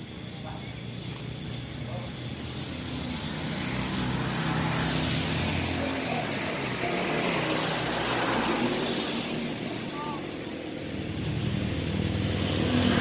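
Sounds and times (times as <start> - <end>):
passing motor vehicle engine: 0.0 - 13.0.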